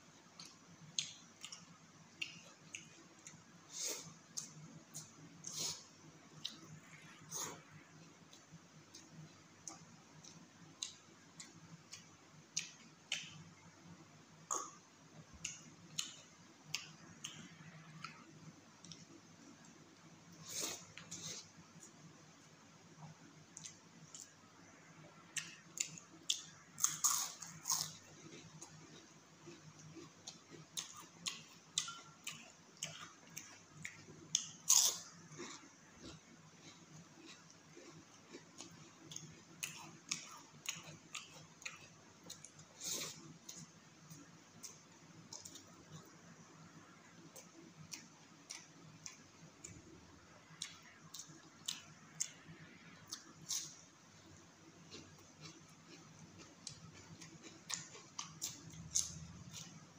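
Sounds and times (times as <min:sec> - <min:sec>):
chewing with mouth clicks: 0:00.3 - 0:13.5, 0:14.5 - 0:18.2, 0:18.8 - 0:22.0, 0:23.0 - 0:24.4, 0:25.3 - 0:46.1, 0:47.3 - 0:49.9, 0:50.5 - 0:53.8, 0:54.8 - 0:59.9.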